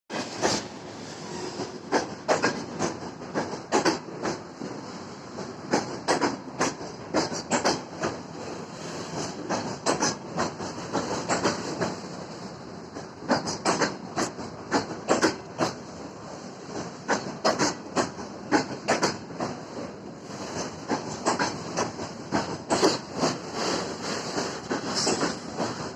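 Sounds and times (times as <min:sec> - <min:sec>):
train wheels clacking over rail joints: 0:00.1 - 0:25.9.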